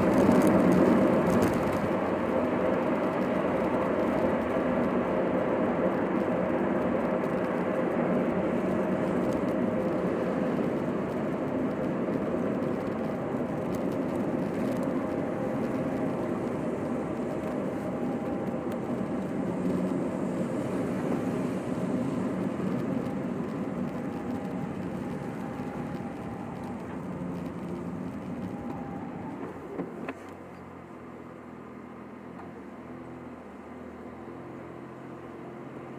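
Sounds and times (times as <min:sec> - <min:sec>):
road and engine noise inside car: 0:00.0 - 0:35.9.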